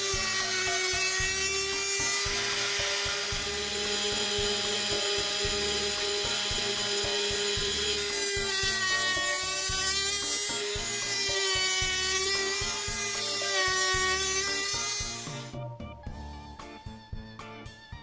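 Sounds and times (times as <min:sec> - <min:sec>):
electric motor whining: 0:00.0 - 0:15.6
low rumble of cutter milling: 0:00.0 - 0:15.6.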